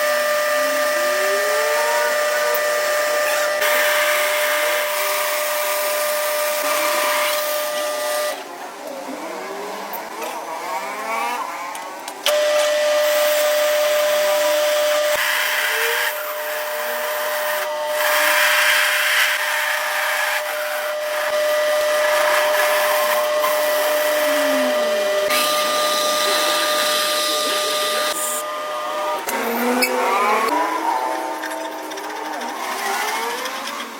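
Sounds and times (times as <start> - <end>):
power tool motor whining: 0.0 - 8.5, 11.9 - 33.9.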